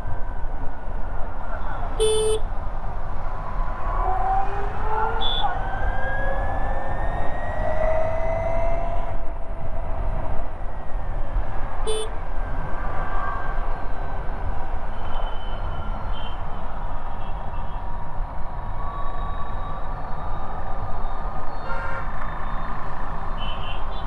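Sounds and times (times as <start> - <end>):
wind and road rumble: 0.0 - 24.0.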